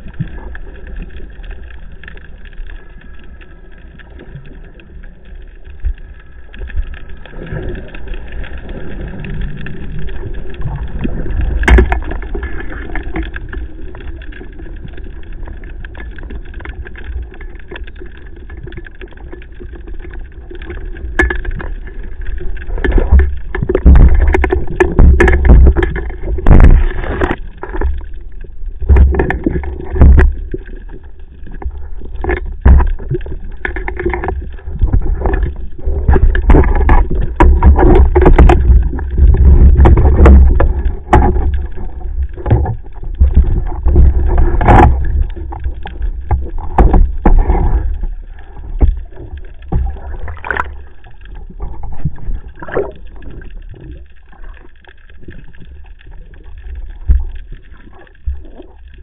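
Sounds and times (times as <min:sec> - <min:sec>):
muffled underwater splashing: 0:00.0 - 0:59.0.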